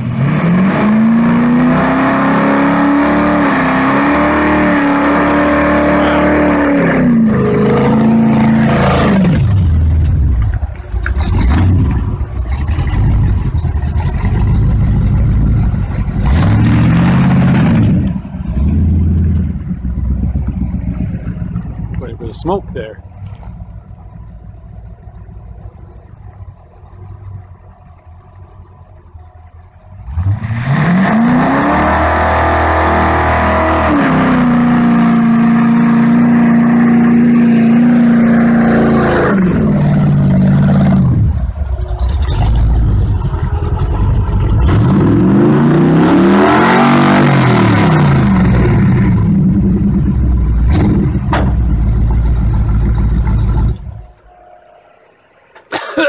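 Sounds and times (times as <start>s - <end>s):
engine revving: 0.0s - 23.8s, 29.8s - 54.2s.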